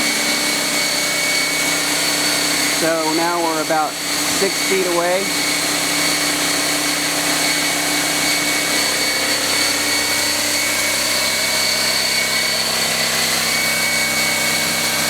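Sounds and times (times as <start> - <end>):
air compressor running: 0.0 - 15.0
whining tones: 0.0 - 15.0.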